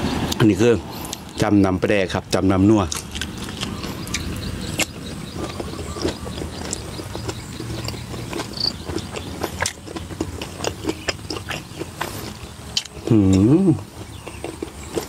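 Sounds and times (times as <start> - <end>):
wet chewing mouth sounds: 2.8 - 15.0.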